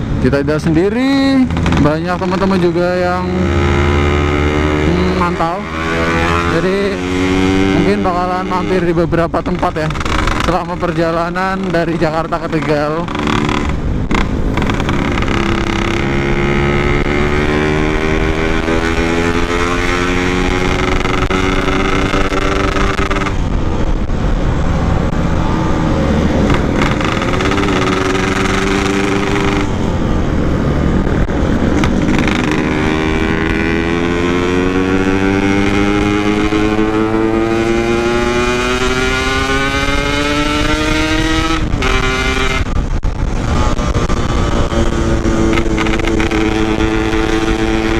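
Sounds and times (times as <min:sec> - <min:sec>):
two-stroke motorcycle engine revving: 0:00.0 - 0:23.7, 0:24.6 - 0:47.9.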